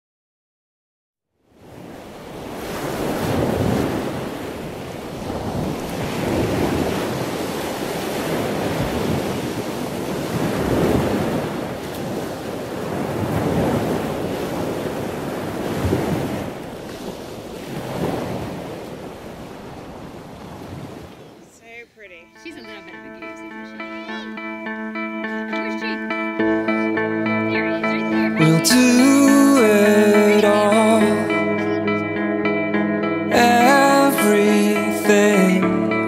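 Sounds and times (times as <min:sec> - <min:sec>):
ocean waves breaking: 0:01.5 - 0:36.0.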